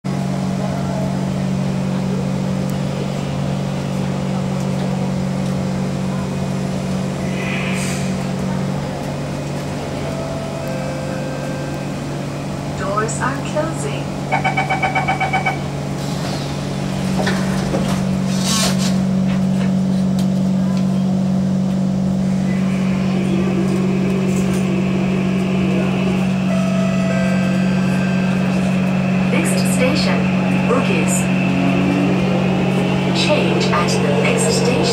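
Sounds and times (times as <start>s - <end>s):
train rumble and hum: 0.0s - 34.9s.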